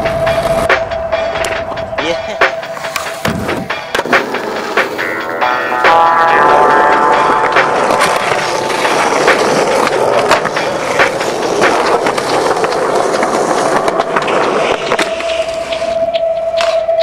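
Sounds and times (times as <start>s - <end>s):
skateboard clacking on ground: 0.0s - 17.0s
skateboard wheels rolling on concrete: 0.0s - 17.0s.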